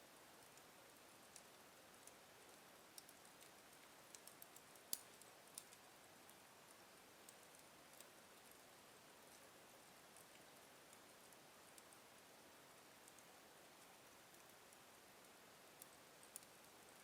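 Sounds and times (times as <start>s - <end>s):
wood fire crackling: 0.4s - 12.0s, 12.6s - 17.0s.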